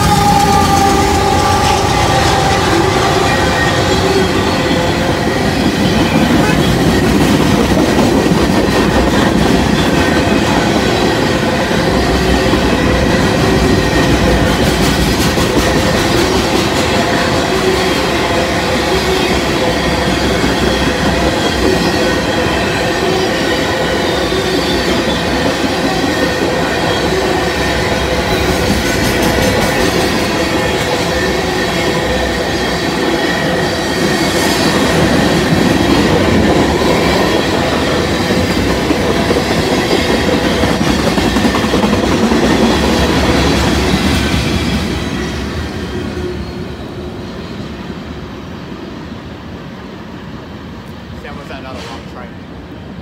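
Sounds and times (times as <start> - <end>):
steel train wheels on rails: 0.0 - 53.0.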